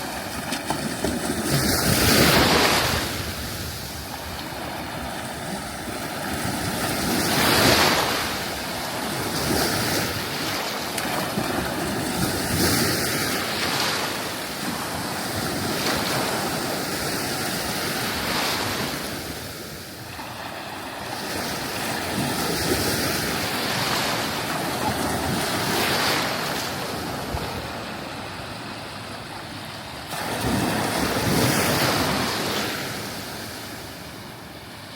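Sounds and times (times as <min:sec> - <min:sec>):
sea waves breaking on beach: 0:00.0 - 0:34.9.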